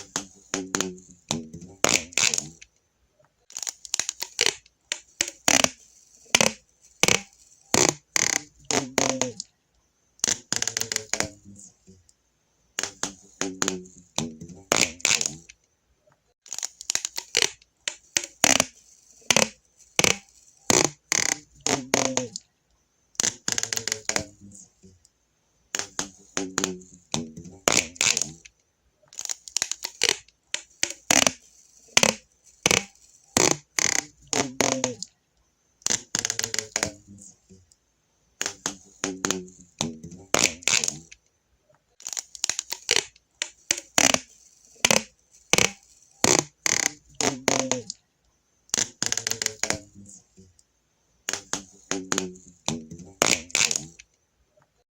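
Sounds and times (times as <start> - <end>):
adhesive tape ripping off roll: 0.0 - 2.7, 3.5 - 9.4, 10.2 - 11.7, 12.8 - 15.6, 16.4 - 22.4, 23.2 - 24.6, 25.8 - 28.5, 29.1 - 35.1, 35.8 - 37.6, 38.4 - 41.2, 42.0 - 48.0, 48.7 - 50.5, 51.3 - 54.1.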